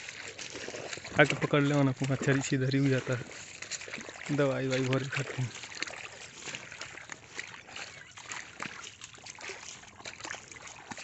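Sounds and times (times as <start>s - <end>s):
footsteps through wet plants: 0.0s - 11.0s
light splashing: 0.0s - 11.0s.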